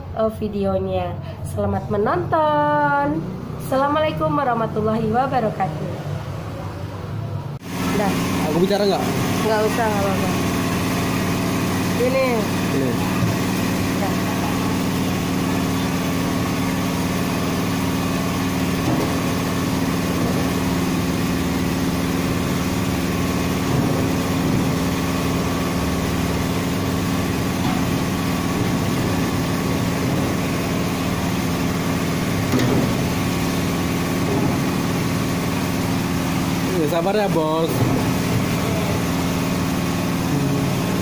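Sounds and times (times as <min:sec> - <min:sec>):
engine idling: 0:07.6 - 0:41.0.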